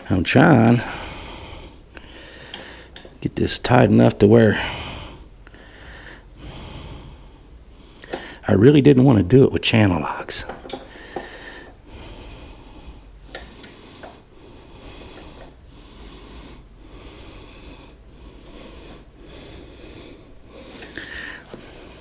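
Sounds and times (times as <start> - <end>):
man breathing hard: 0.0 - 8.5, 10.4 - 22.0.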